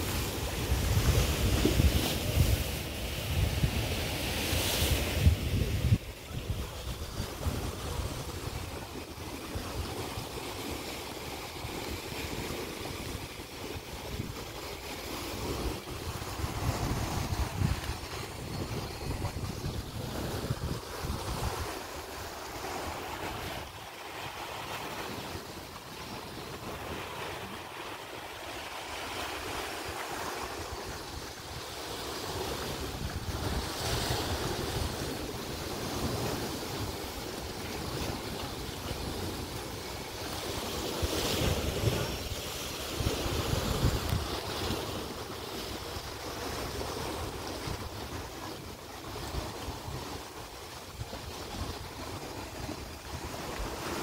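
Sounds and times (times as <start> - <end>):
sea waves against rocks: 0.0 - 54.0
wind buffeting microphone: 0.0 - 54.0.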